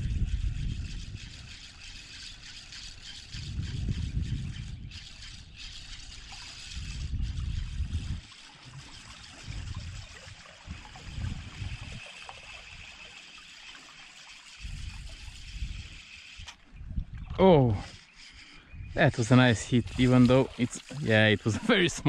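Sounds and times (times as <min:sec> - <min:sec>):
river water trickling: 0:00.1 - 0:22.0.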